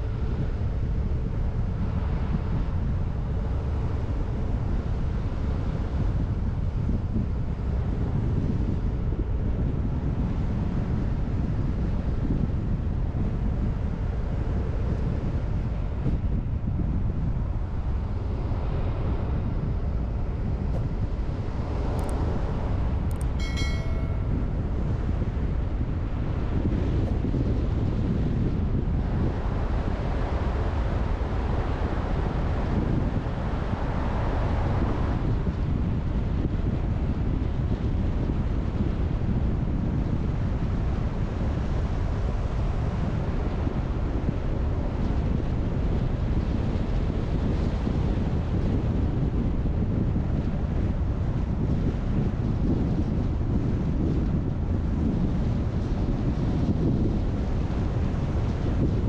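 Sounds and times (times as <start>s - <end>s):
wind noise: 0.0s - 59.0s.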